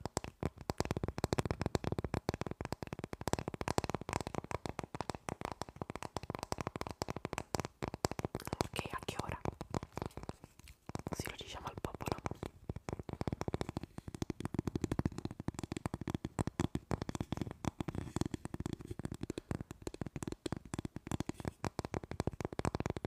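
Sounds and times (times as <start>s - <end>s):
fingernails tapping on resin block: 0.0s - 23.0s.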